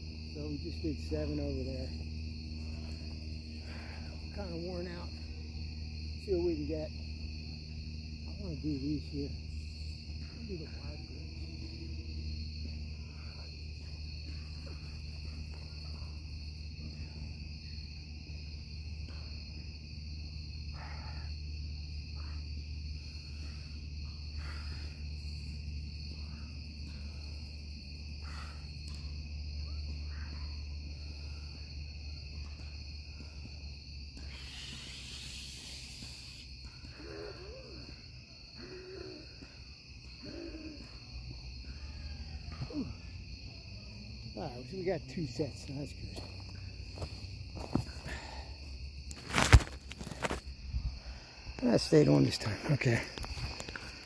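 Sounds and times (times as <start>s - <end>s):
night insects droning: 0.0s - 54.0s.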